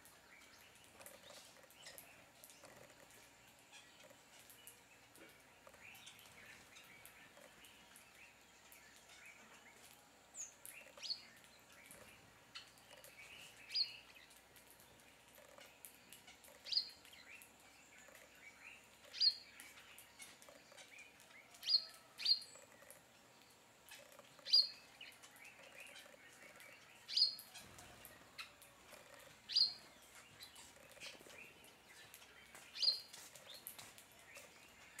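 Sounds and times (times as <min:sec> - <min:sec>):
birds chattering softly: 0:00.0 - 0:35.0.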